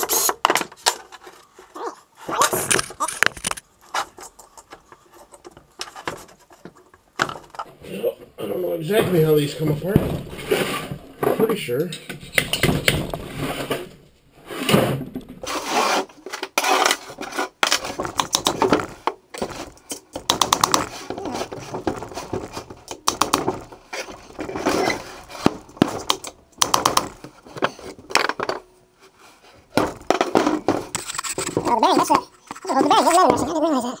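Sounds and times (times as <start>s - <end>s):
metal knocking and scraping: 2.3s - 33.6s.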